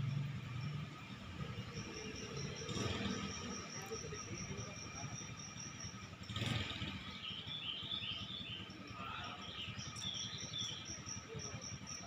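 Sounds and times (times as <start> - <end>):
birds twittering: 0.0 - 12.0
insect chirping rapidly: 0.0 - 12.0.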